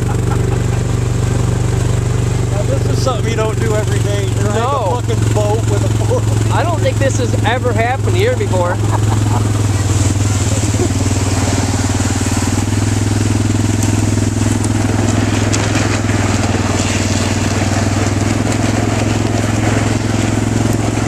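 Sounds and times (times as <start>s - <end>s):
atv engine running under load: 0.0s - 21.0s
boat hull dragging on gravel: 0.0s - 21.0s.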